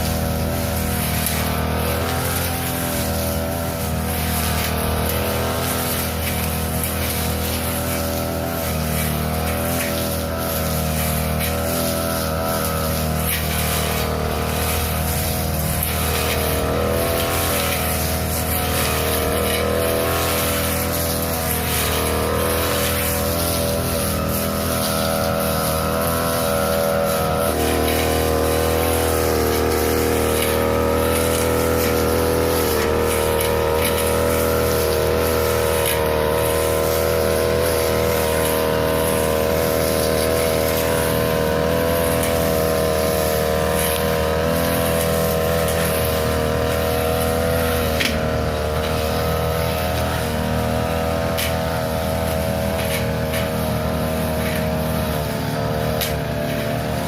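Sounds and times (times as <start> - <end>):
lawn mower engine cutting grass: 0.0 - 57.0.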